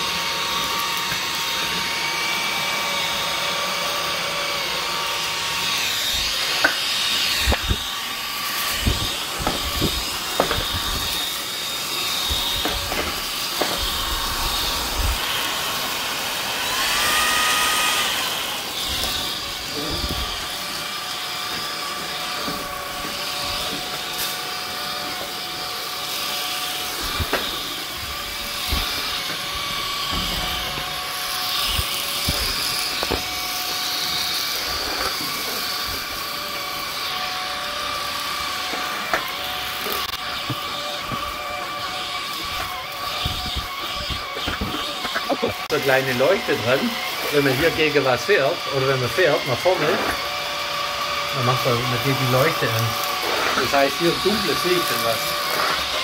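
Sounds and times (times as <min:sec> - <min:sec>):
stick vacuum motor whine: 0:00.0 - 0:56.0.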